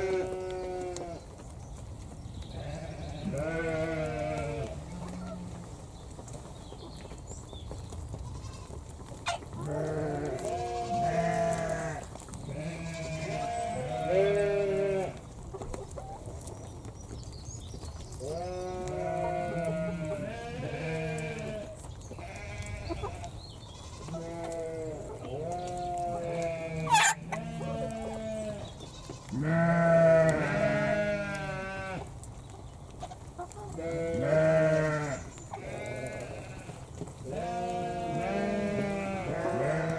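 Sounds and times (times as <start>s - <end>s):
hens calling: 0.0s - 7.2s, 7.9s - 16.9s, 17.9s - 39.9s.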